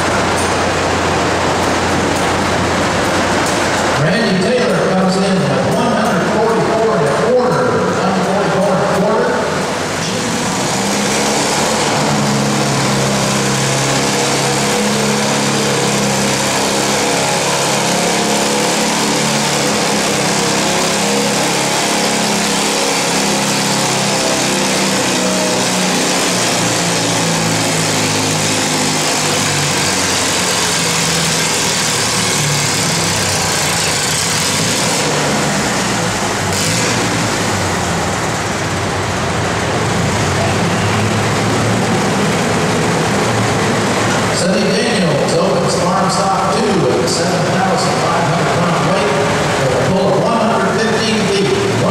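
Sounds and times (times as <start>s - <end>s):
tractor engine running hard: 0.0s - 51.9s.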